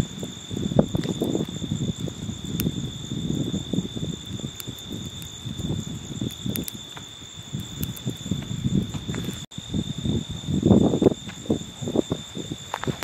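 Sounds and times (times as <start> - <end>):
crickets trilling: 0.0 - 13.0
wind rumble on microphone: 0.0 - 13.0.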